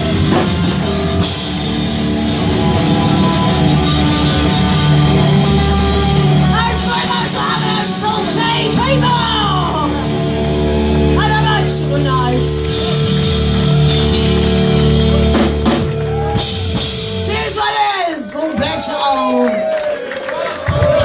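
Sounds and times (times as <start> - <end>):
punk rock band playing: 0.0 - 19.4.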